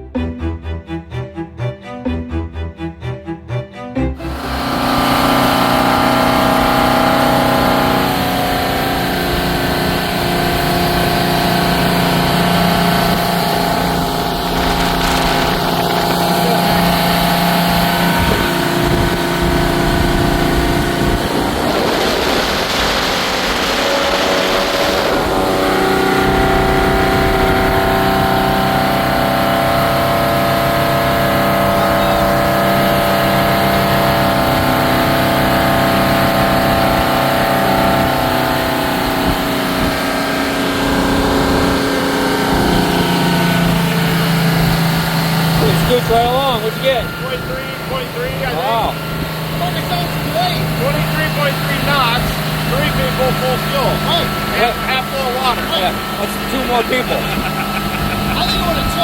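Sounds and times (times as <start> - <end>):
boat engine running steadily: 4.2 - 59.0
rush of noise: 4.2 - 59.0.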